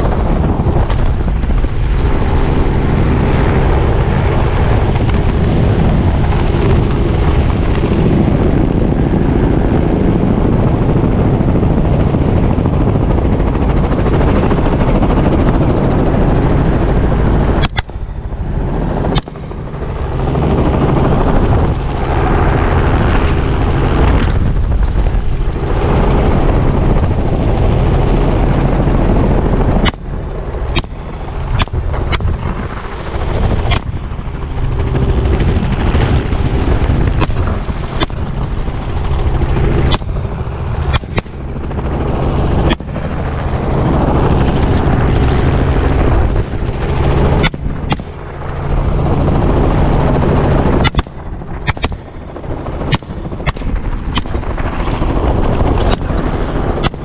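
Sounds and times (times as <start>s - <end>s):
helicopter running overhead: 0.0s - 57.0s.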